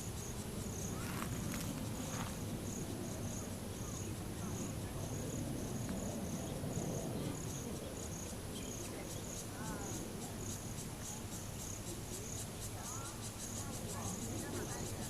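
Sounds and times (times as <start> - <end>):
insect chirping in pulses: 0.0 - 15.0.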